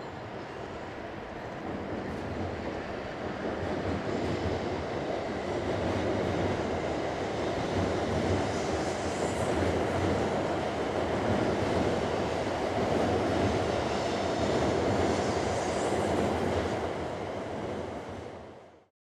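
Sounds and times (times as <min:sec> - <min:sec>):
train rumble on elevated track: 0:00.0 - 0:18.9.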